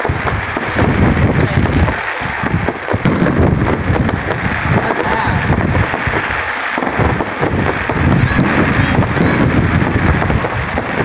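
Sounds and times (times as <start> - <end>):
fireworks bangs and crackling: 0.0 - 11.0
low rumble: 0.0 - 11.0.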